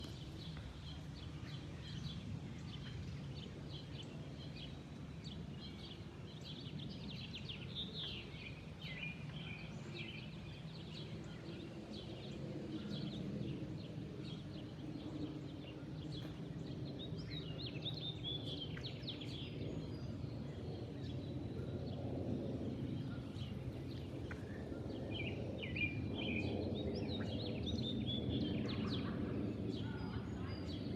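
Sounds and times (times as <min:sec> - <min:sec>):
jet engine roar overhead: 0:00.0 - 0:30.9.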